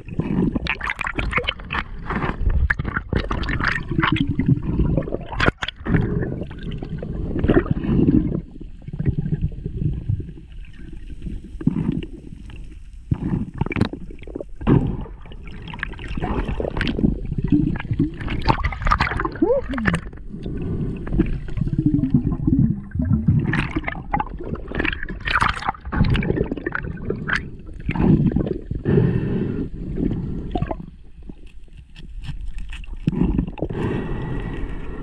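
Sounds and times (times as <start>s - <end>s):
underwater gurgling and bubbling: 0.0s - 35.0s.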